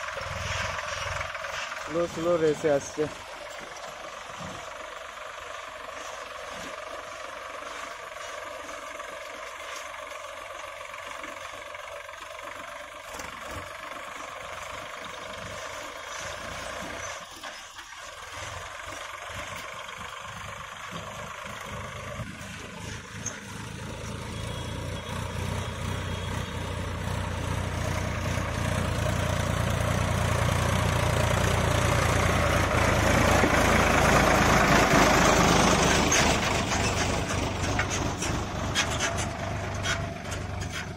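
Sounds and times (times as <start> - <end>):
tractor diesel engine: 0.0 - 40.9.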